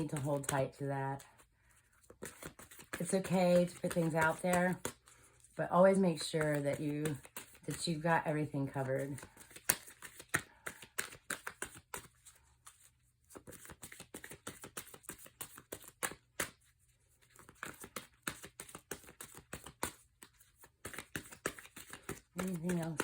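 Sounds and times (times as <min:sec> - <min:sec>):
cards being shuffled: 0:00.0 - 0:01.4, 0:02.0 - 0:08.0, 0:08.9 - 0:23.0.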